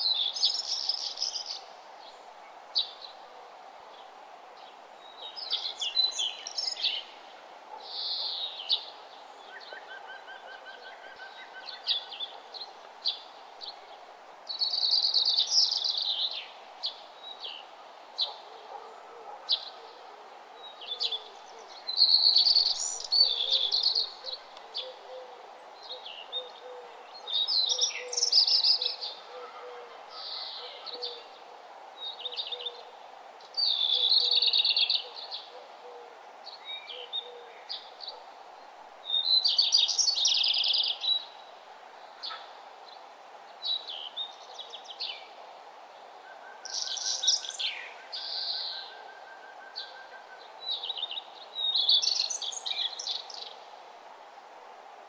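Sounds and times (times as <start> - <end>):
songbirds singing: 0.0 - 53.7
faint steady hiss: 0.0 - 55.0.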